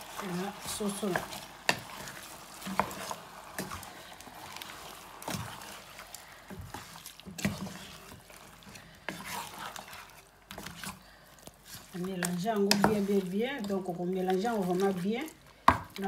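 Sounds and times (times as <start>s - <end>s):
wet mixing noise: 0.0s - 16.0s.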